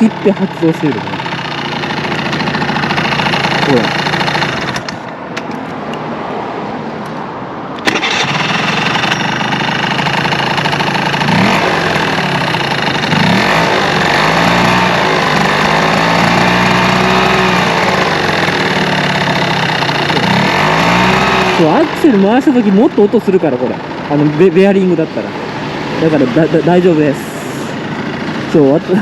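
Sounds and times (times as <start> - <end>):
scooter engine rattling: 0.0 - 5.7, 7.8 - 29.0.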